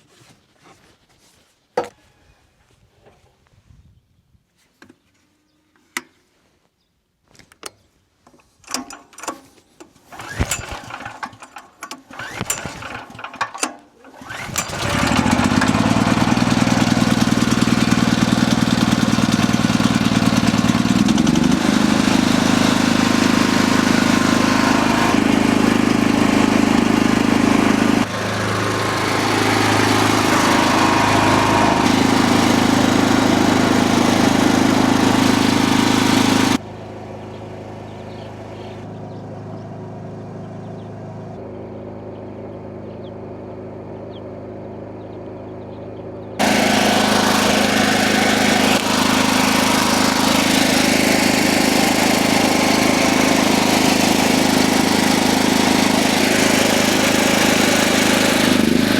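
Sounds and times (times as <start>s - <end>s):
generator engine running: 10.1s - 58.9s.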